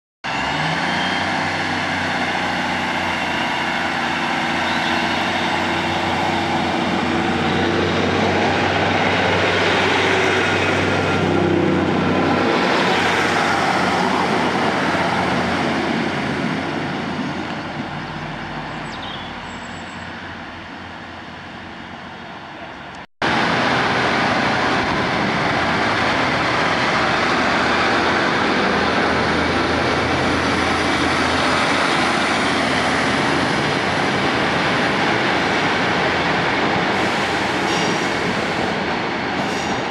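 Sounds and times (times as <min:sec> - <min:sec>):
diesel train engines running: 0:00.2 - 0:39.9
train passing with rush: 0:00.2 - 0:39.9.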